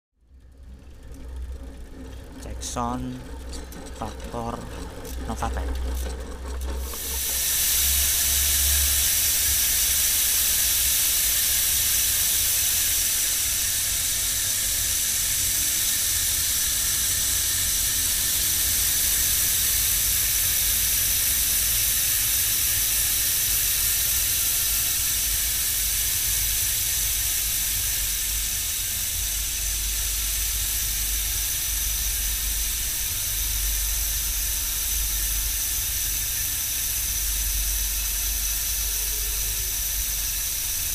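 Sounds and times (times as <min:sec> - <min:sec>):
bicycle freehub buzzing: 0:00.2 - 0:40.9.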